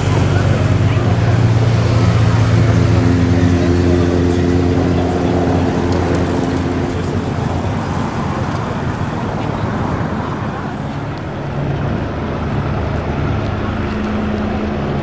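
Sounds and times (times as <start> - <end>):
motorcycles riding past: 0.0 - 15.0
street traffic noise: 0.0 - 15.0.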